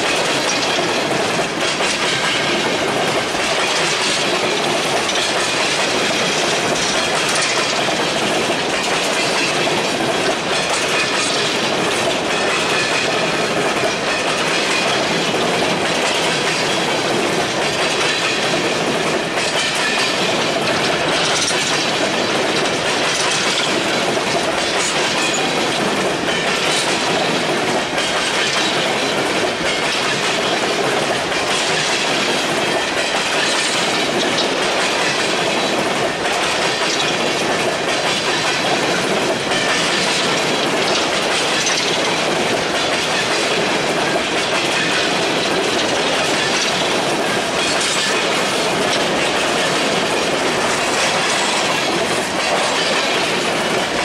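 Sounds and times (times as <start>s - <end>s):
train wheels rumbling on rail: 0.0s - 54.0s
wheels clacking on rail joints: 0.0s - 54.0s.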